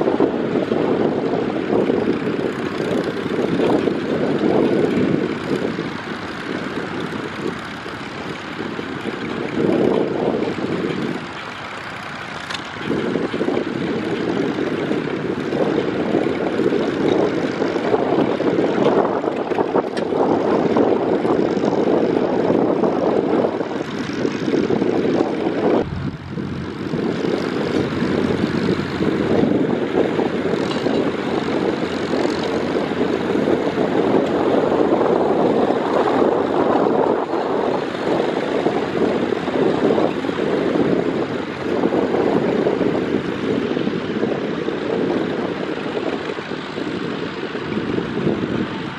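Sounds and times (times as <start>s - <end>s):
tractor engine droning: 0.0s - 44.2s.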